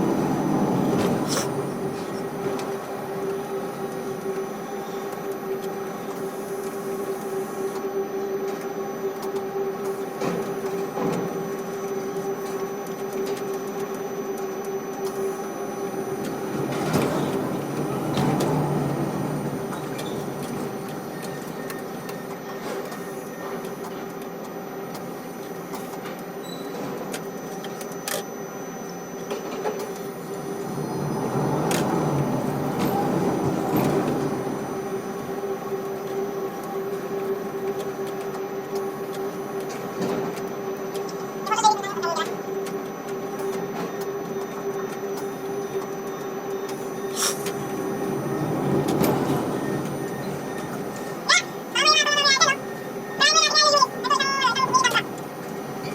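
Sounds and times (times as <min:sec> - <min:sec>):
crane machinery whine: 0:00.0 - 0:55.9
mechanical hum: 0:00.0 - 0:55.9.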